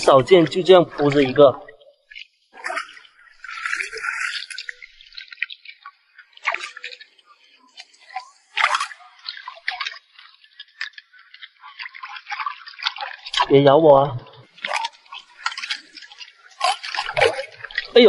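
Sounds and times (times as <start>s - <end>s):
shallow water splashing and dripping: 0.0s - 18.0s.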